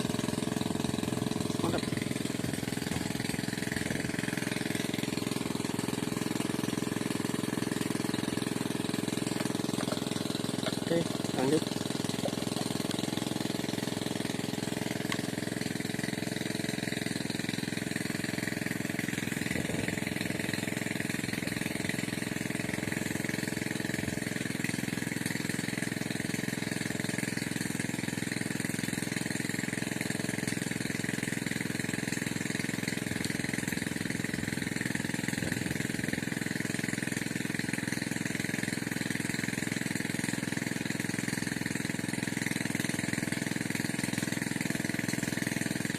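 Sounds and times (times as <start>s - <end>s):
engine droning steadily: 0.0s - 45.9s.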